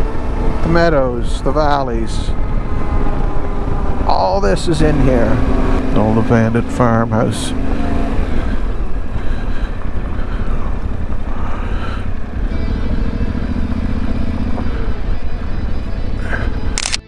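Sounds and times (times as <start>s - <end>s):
motorcycle engine running: 0.0s - 17.0s
tyres and wind rumble: 0.0s - 17.0s.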